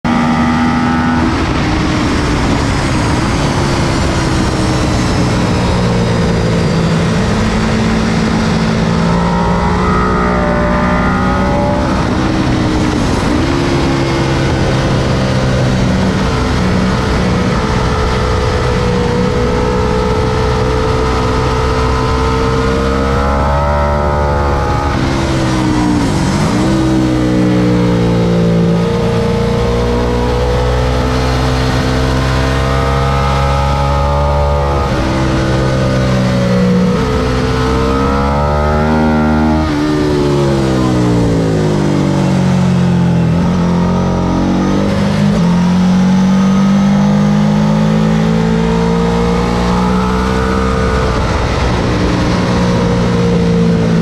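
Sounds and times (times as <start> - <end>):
motorcycle engine revving through gears: 0.0 - 54.0.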